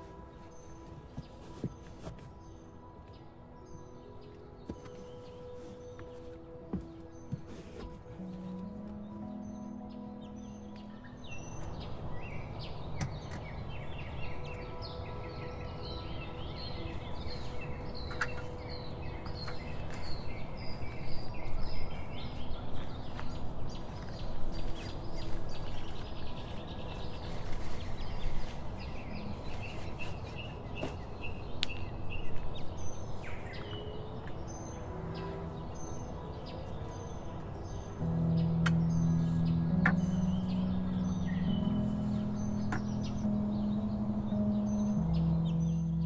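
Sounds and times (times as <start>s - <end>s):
birds singing and chirping: 0.0s - 46.0s.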